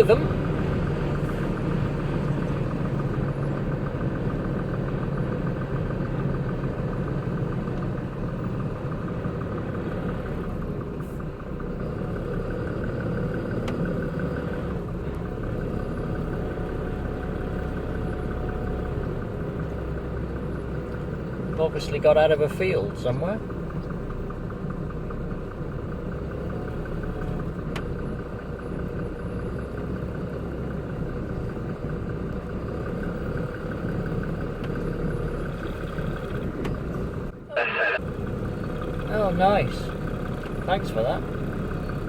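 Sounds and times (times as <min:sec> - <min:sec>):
truck diesel engine idling: 0:00.0 - 0:42.0.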